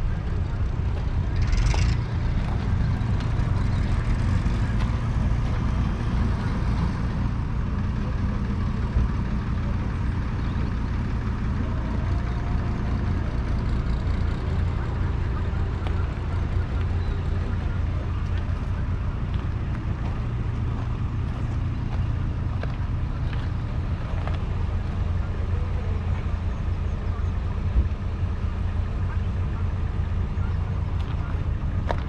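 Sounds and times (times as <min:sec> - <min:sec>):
tractor engine running steadily: 0:00.0 - 0:32.0.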